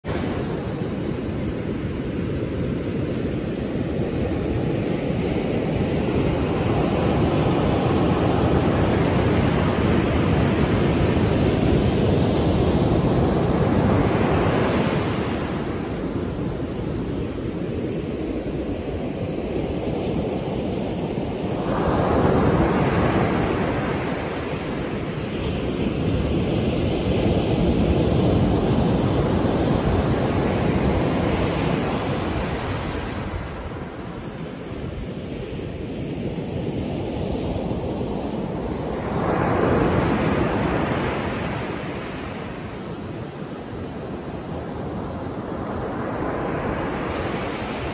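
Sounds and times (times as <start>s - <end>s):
ocean surf washing on sand: 0.0s - 47.9s.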